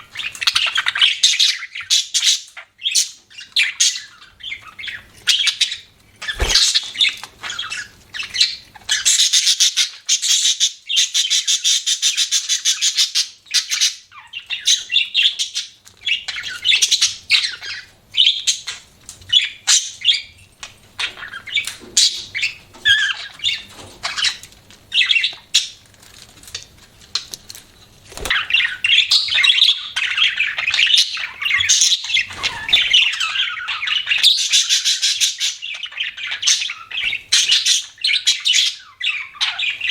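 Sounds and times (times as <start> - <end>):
budgerigars chirping and chattering: 0.0 - 25.8, 26.4 - 39.9.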